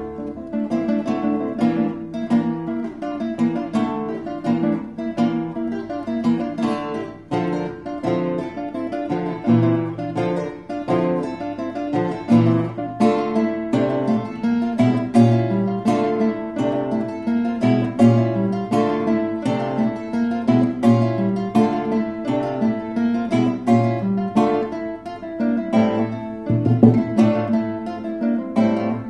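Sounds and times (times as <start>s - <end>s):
classical guitars playing: 0.0s - 29.0s.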